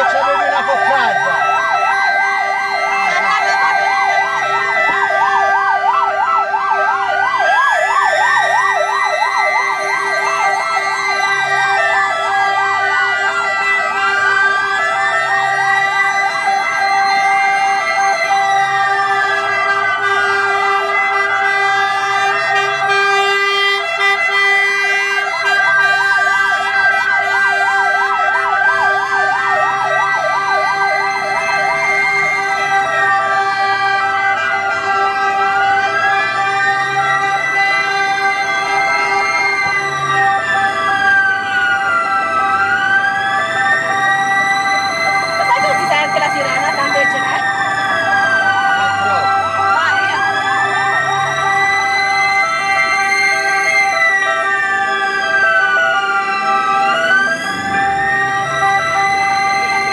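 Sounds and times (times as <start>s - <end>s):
ambulance sirens wailing: 0.0s - 59.9s.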